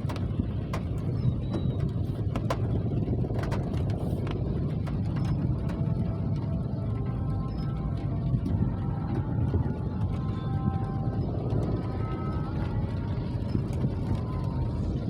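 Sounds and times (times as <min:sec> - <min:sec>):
rain rumbling: 0:00.0 - 0:15.0
raindrops tapping close by: 0:00.0 - 0:15.0.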